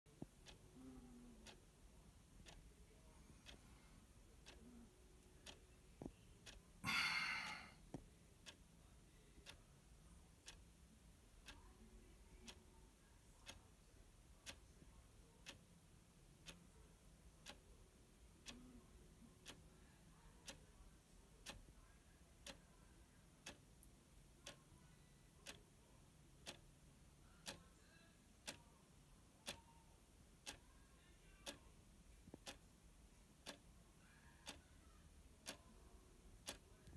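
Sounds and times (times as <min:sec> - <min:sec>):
clock ticking: 0:00.1 - 0:36.9.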